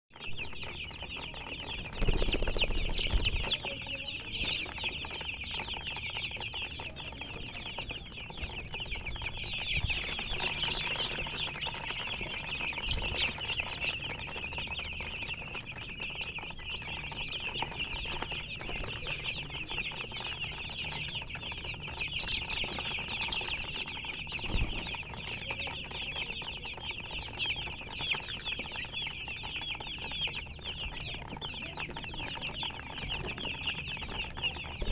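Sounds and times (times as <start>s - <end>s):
chicks chirping: 0.1s - 34.9s.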